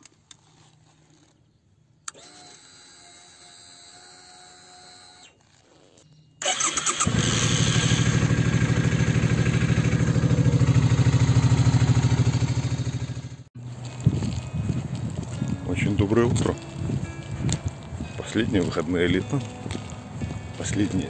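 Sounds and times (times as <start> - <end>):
motorcycle engine starting and idling: 2.0 - 21.0.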